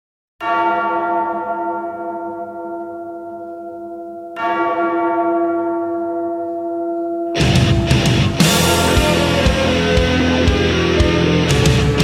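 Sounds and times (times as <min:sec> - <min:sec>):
large church bell tolling: 0:00.4 - 0:11.6.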